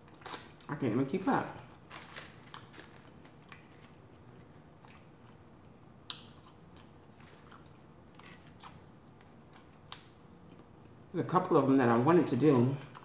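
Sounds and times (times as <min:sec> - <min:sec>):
chewing french fries: 0:00.0 - 0:11.1, 0:11.9 - 0:13.0.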